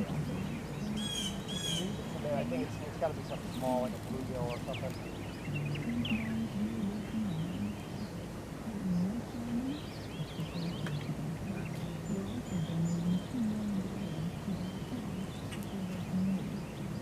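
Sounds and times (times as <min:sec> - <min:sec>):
birds chirping: 0:00.0 - 0:17.0
low wavering hum: 0:00.0 - 0:17.0.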